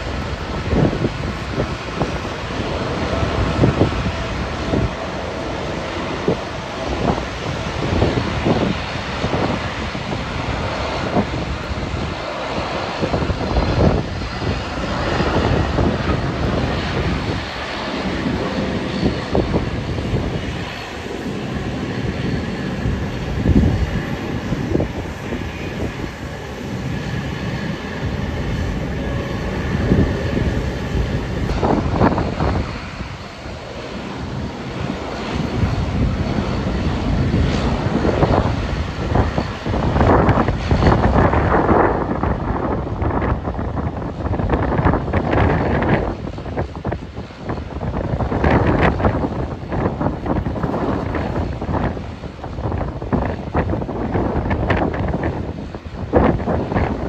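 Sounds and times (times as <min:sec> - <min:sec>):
jet engines whining: 0:00.0 - 0:57.0
wind buffeting microphone: 0:00.0 - 0:57.0.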